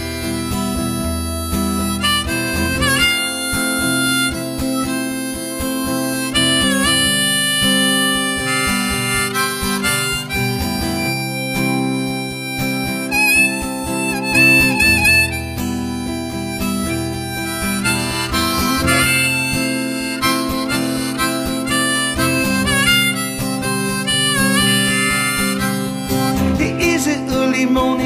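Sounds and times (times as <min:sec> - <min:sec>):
harmonica solo: 0:00.0 - 0:27.6
acoustic guitar: 0:00.0 - 0:28.0
bass guitar: 0:00.0 - 0:28.0.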